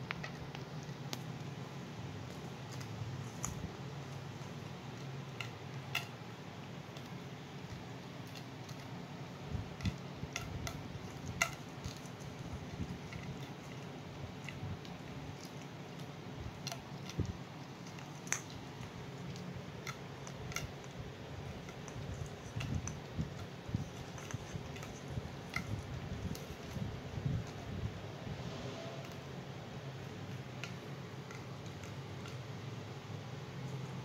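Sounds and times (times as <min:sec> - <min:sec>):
steady low hum: 0:00.0 - 0:34.0
puppy pawing and biting toy: 0:02.2 - 0:28.0, 0:29.8 - 0:34.0.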